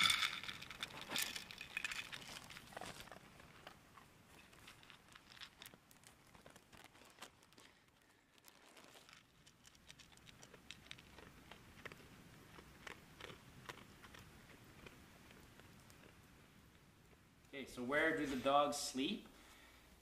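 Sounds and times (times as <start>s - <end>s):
dog crunching dry kibble: 0.0s - 17.2s.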